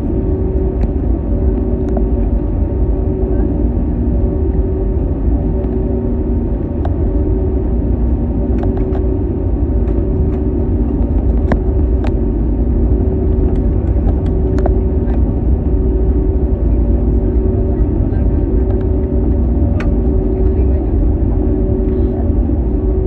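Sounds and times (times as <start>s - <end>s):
jet engines rumbling: 0.0s - 23.0s
steady hum: 0.0s - 23.0s.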